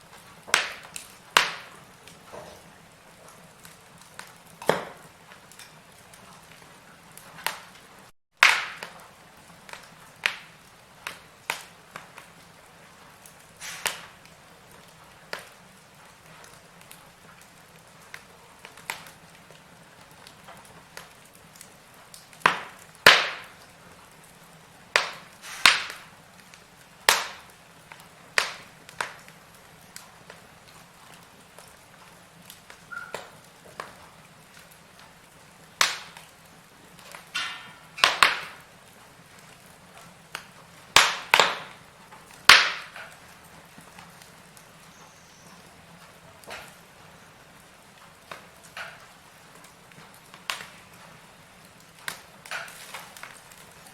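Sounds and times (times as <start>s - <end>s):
firewood crackling: 0.0s - 53.9s
low steady hiss: 0.0s - 53.9s.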